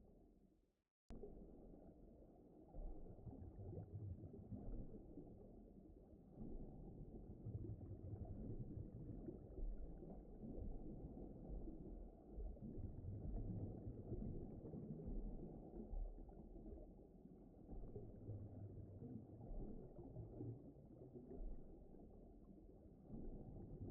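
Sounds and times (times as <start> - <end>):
muffled underwater rumble: 1.1 - 23.9.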